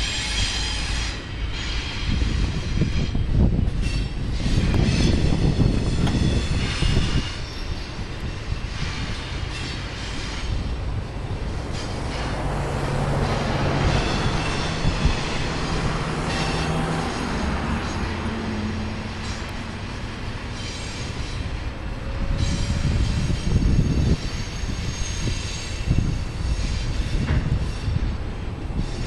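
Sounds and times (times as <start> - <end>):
wheel squeal: 0.0 - 19.8, 20.4 - 28.1, 28.7 - 29.0
freight train cars rumbling: 0.0 - 29.0
train cars knocking: 0.0 - 29.0.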